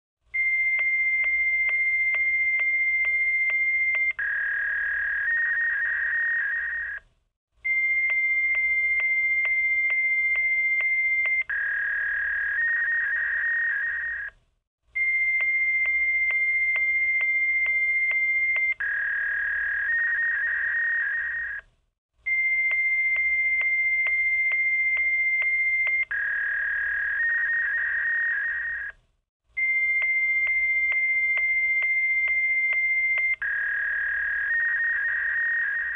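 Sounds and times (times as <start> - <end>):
warbling two-tone fax signal: 0.4 - 7.0, 7.7 - 14.3, 15.0 - 21.6, 22.3 - 29.0, 29.6 - 35.9.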